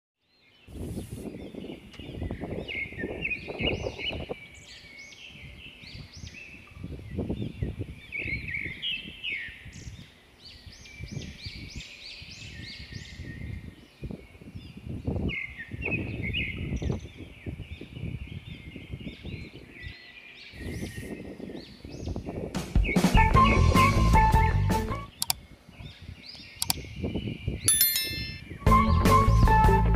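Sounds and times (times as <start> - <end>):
birds chirping: 0.2 - 23.1, 25.1 - 28.6
wind buffeting microphone: 0.7 - 20.0, 20.6 - 23.0, 25.4 - 27.7.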